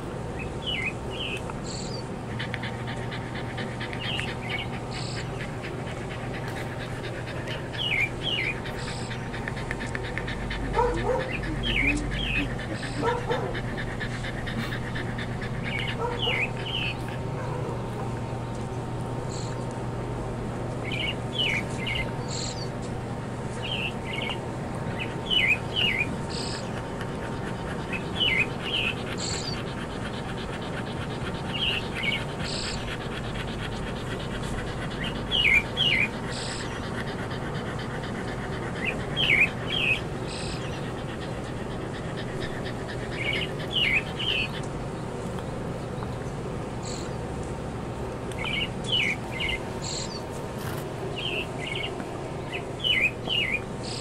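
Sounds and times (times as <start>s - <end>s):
low background hum: 0.0s - 54.0s
small birds chirping: 0.2s - 20.0s, 20.6s - 54.0s.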